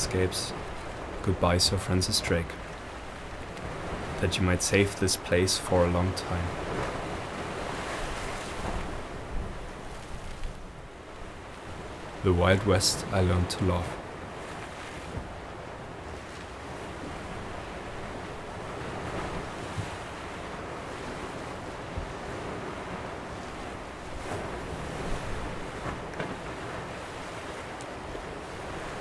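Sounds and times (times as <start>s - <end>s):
waves washing against sea wall: 0.0s - 29.0s
wind: 0.0s - 29.0s.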